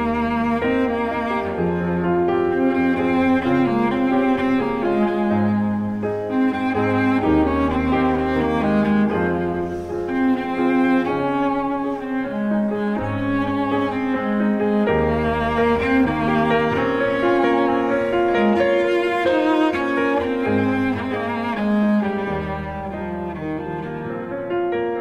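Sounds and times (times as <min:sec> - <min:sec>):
piano: 0:00.0 - 0:25.0
slow bowed strings with cello: 0:00.0 - 0:25.0.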